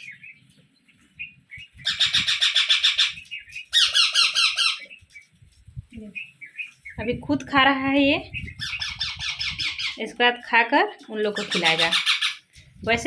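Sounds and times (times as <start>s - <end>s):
parakeet chicks begging calls: 0.0s - 5.3s, 6.0s - 13.0s.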